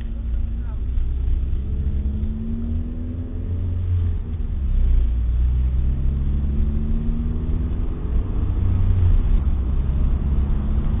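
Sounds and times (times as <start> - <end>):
car engine rumbling: 0.0 - 11.0
road noise: 0.0 - 11.0.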